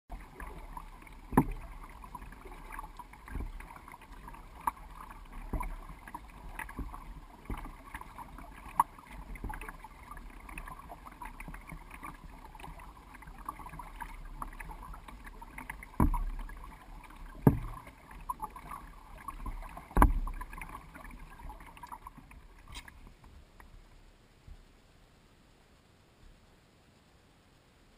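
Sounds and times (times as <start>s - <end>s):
paddle pulling through water: 0.1s - 24.9s.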